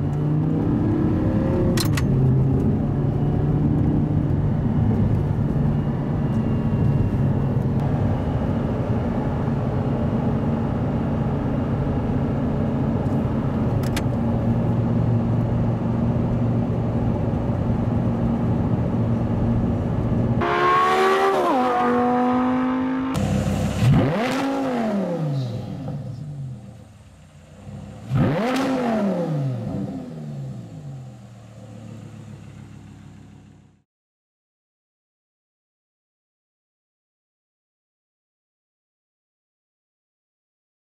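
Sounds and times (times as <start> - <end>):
sports car engine running and revving: 0.0 - 33.8.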